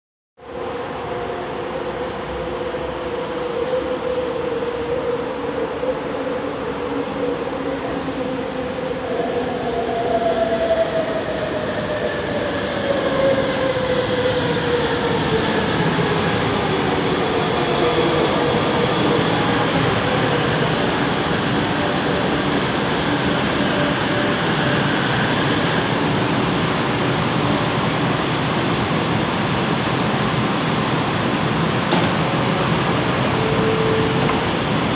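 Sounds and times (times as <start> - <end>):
train rail noise: 0.5 - 34.9.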